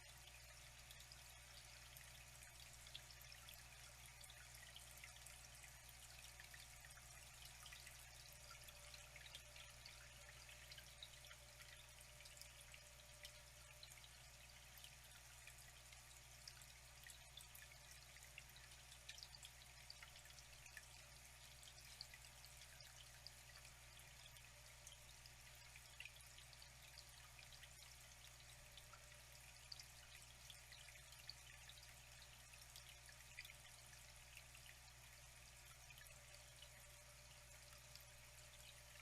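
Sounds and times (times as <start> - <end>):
water drips and splashes: 0.0 - 39.0
water trickling: 0.0 - 39.0.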